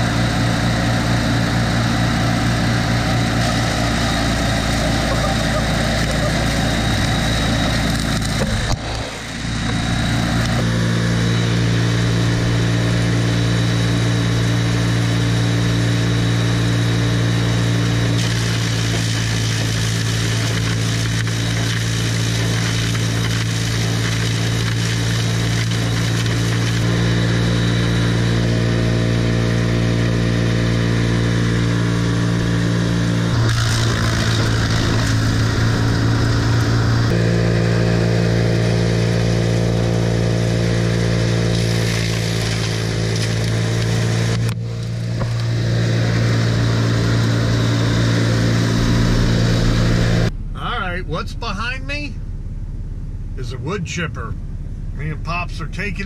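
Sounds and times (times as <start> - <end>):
chipper shredding bamboo: 0.0 - 50.3
wood chipper engine running: 0.0 - 56.0.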